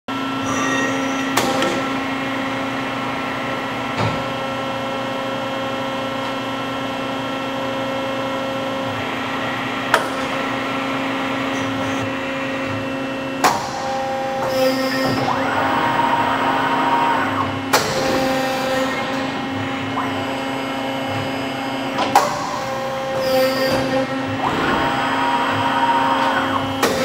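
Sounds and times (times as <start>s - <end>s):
machine humming: 0.1s - 27.0s.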